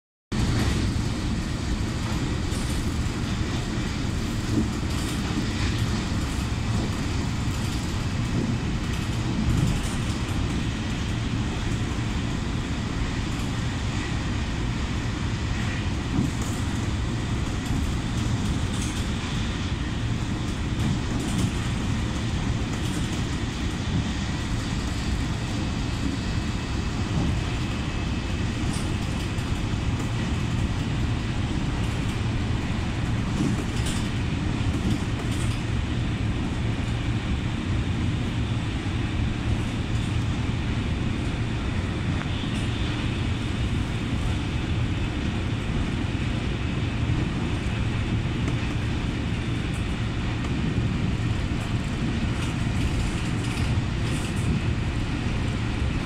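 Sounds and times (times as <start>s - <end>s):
moving train rumble: 0.3s - 56.0s.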